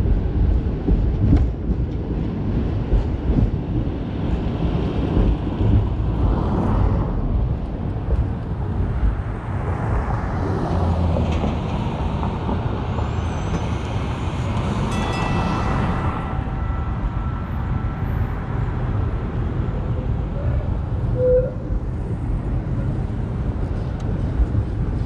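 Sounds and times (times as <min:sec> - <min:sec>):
streetcar wheels rumbling: 0:00.0 - 0:25.0
traffic noise: 0:00.0 - 0:25.0.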